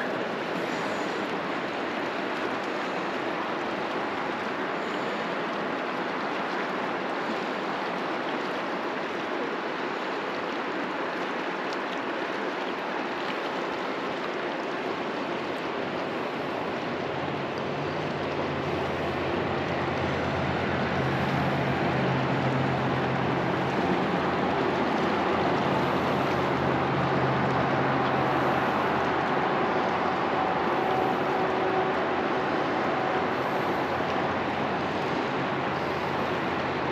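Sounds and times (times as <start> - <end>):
low engine hum: 0.0 - 36.9
river water rushing over rocks: 0.0 - 36.9.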